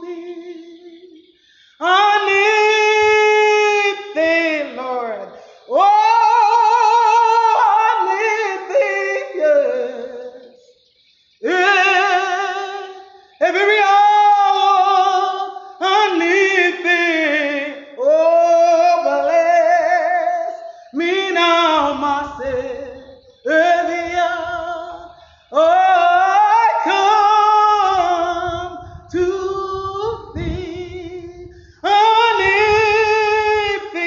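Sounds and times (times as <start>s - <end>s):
woman singing a slow hymn: 0.0s - 10.6s, 11.4s - 34.0s.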